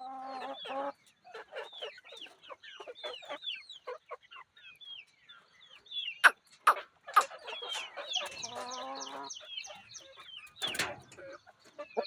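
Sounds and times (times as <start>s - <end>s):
chickens clucking: 0.0s - 12.0s
chicks peeping: 0.0s - 12.0s.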